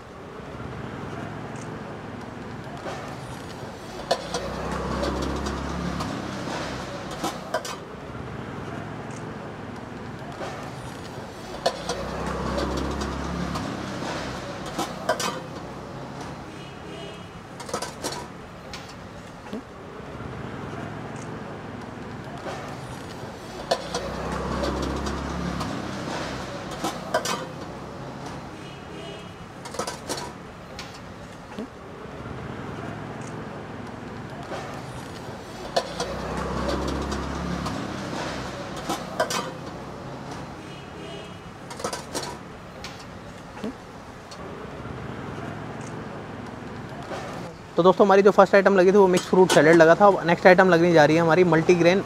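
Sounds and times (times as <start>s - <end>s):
street background noise: 0.0s - 52.0s.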